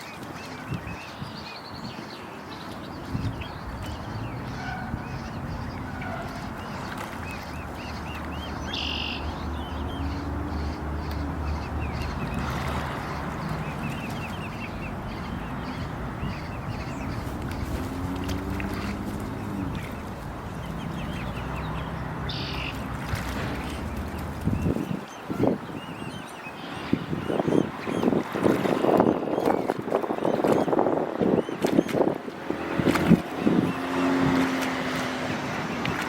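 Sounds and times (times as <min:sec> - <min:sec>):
cygnets peeping: 0:02.8 - 0:32.1.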